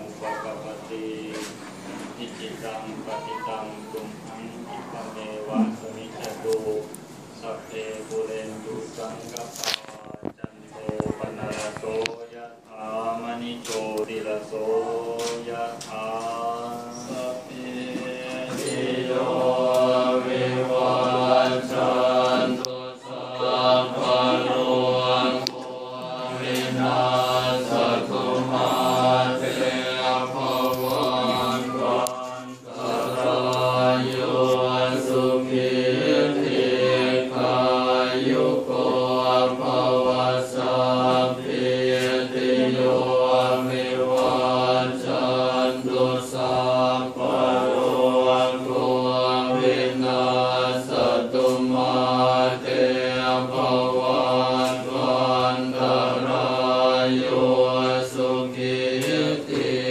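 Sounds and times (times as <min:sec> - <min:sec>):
monks chanting in unison: 0:00.0 - 0:59.9.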